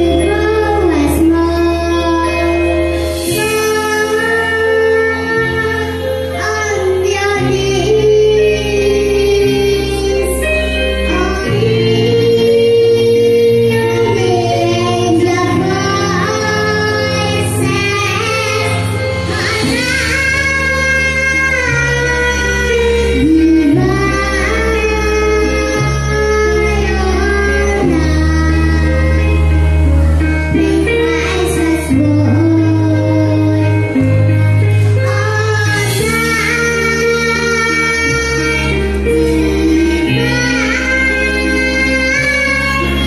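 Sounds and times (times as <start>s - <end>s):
accompaniment music with bass line: 0.0s - 43.0s
girl singing into a microphone: 0.0s - 43.0s.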